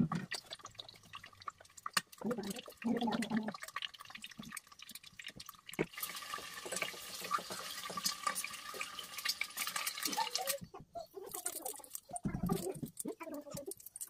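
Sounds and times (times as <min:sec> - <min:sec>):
eggs sizzling in oil: 0:00.0 - 0:14.0.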